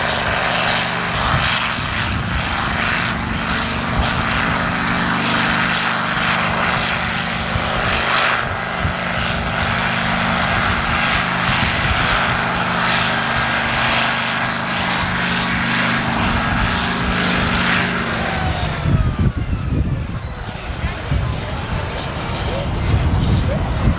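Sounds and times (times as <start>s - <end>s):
tractor engine at high revs: 0.0s - 23.9s.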